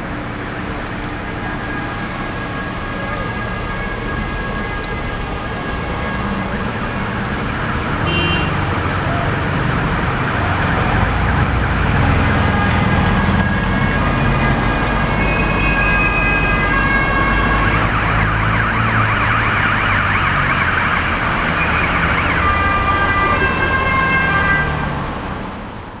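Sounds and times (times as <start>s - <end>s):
two-tone emergency siren: 0.0s - 25.2s
road traffic rumble: 0.0s - 26.0s.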